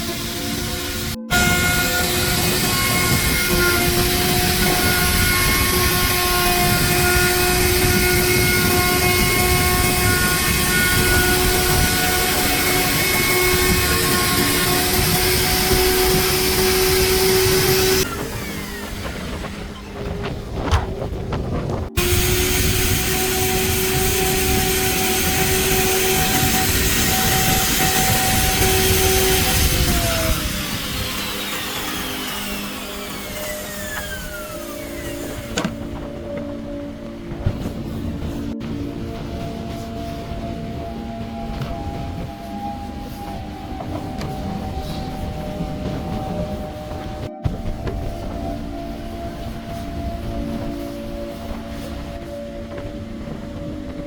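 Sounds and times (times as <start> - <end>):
woodworking power tool running: 0.0 - 54.0.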